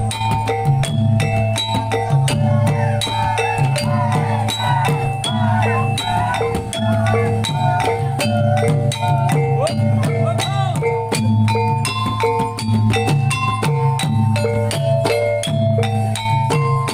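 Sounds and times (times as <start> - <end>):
wavering melody line: 0.0 - 16.9.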